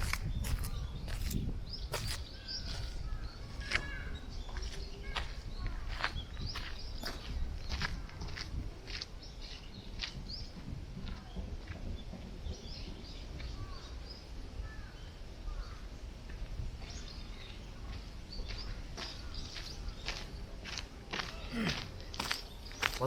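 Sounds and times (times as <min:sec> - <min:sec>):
bird chirps: 0:00.0 - 0:23.0
wind buffeting microphone: 0:00.0 - 0:23.0.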